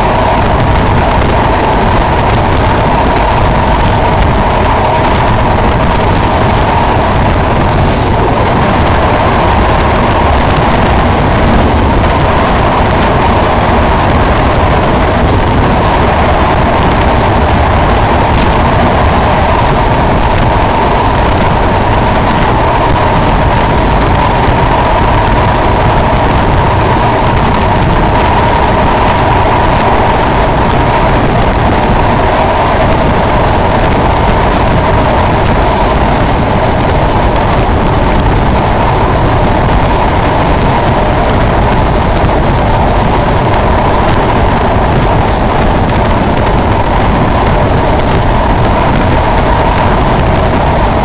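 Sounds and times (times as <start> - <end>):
continuous ringing hum: 0.0 - 51.0
rushing air: 0.0 - 51.0
train wheels rushing on rails: 0.0 - 51.0.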